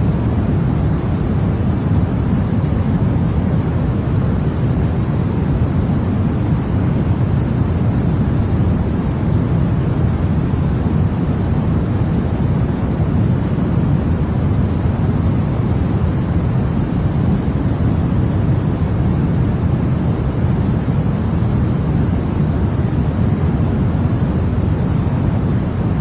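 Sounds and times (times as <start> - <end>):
deep white noise: 0.0 - 26.0.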